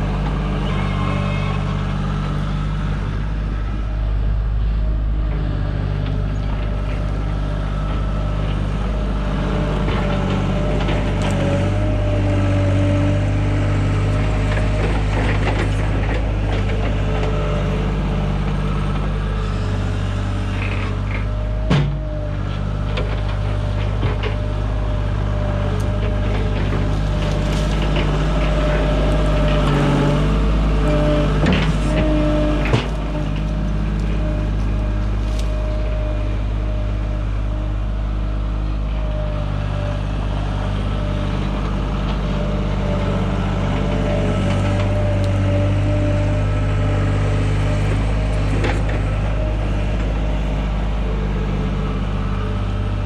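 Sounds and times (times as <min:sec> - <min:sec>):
heavy machine engine running: 0:00.0 - 0:53.0.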